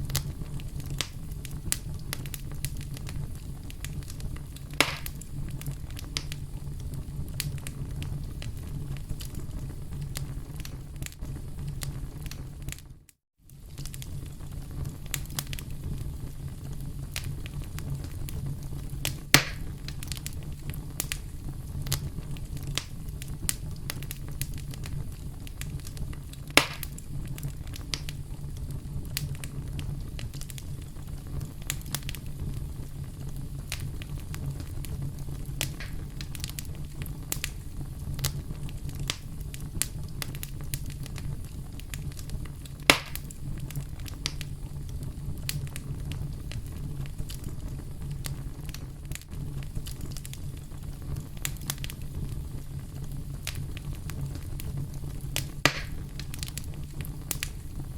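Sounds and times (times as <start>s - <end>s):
campfire crackling: 0.0s - 57.9s
fire pops: 0.0s - 57.9s.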